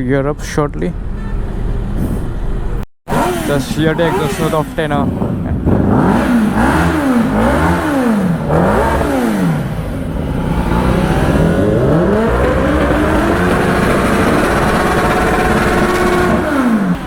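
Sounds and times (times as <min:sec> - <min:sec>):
motorcycle engine revving: 0:03.1 - 0:17.0.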